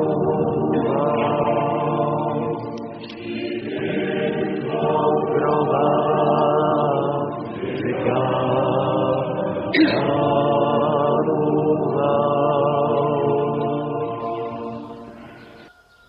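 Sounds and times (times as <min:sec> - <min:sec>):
choir chanting: 0:00.0 - 0:16.0.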